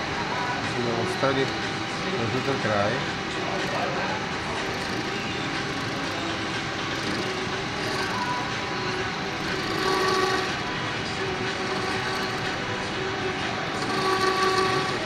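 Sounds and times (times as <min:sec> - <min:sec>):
faint whining tones: 0:00.0 - 0:15.0
metal lathe cutting copper: 0:00.1 - 0:15.0.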